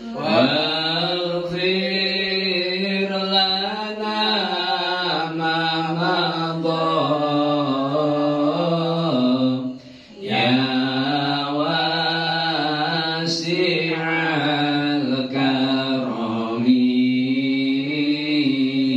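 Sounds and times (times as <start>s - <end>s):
man chanting into a microphone: 0.0s - 18.9s.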